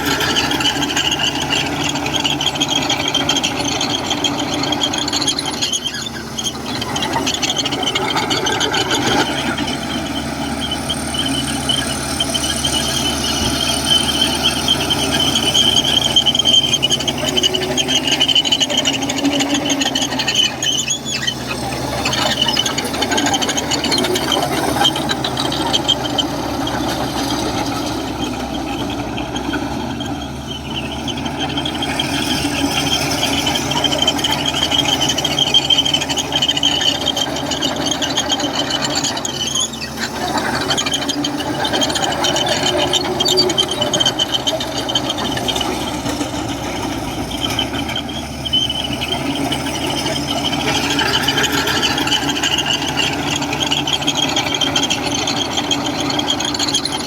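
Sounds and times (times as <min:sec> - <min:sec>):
bulldozer diesel engine: 0:00.0 - 0:57.0
steel tracks squealing: 0:00.0 - 0:57.0.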